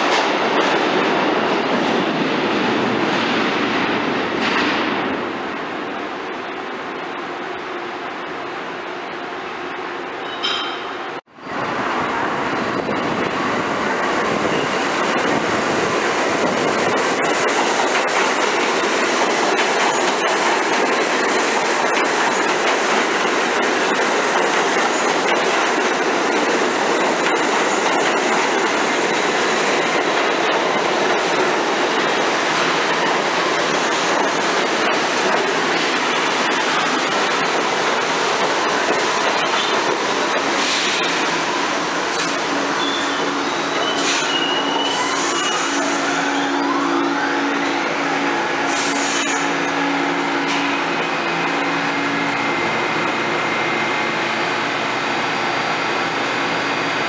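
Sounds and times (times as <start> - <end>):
subway train running: 0.0 - 57.0.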